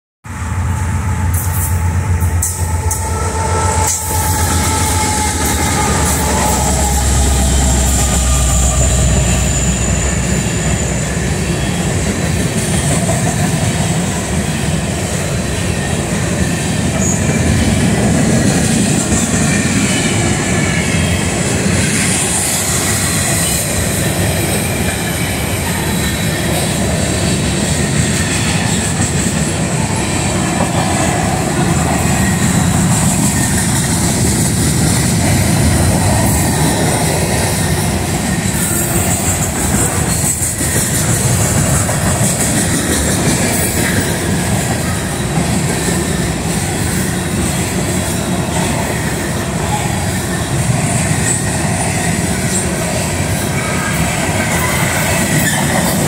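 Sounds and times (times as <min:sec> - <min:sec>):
diesel locomotive engine rumble: 0:00.2 - 0:56.0
train cars rolling on steel wheels: 0:00.3 - 0:56.0
high wheel squeal: 0:00.4 - 0:13.1, 0:15.6 - 0:56.0.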